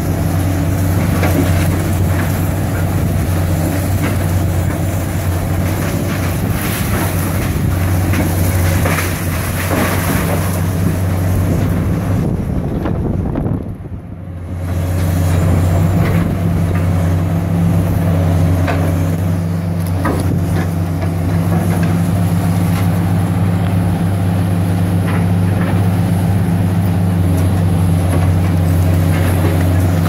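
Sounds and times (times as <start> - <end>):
excavator diesel engines running: 0.0 - 30.0.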